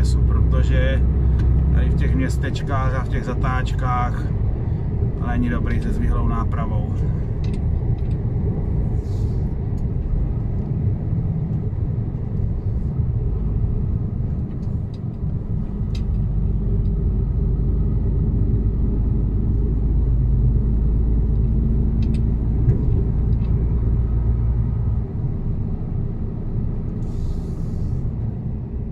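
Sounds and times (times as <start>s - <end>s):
truck engine and road rumble: 0.0s - 28.9s.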